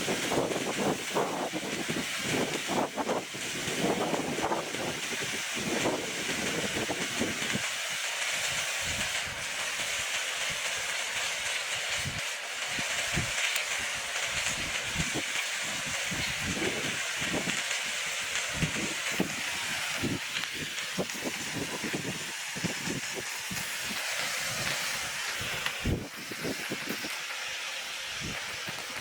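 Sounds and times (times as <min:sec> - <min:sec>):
steady hissing noise: 0:00.0 - 0:29.0.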